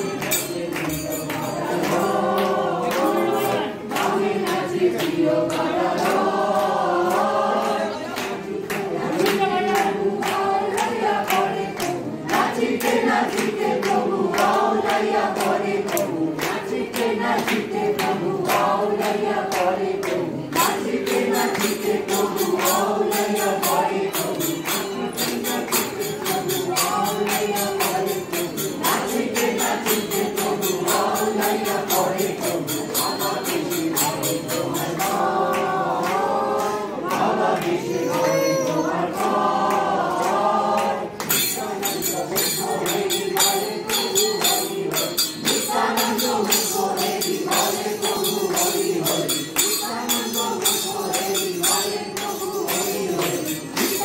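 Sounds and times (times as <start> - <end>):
crowd singing a chant: 0.0 - 54.0
sharp percussive strikes: 0.0 - 54.0.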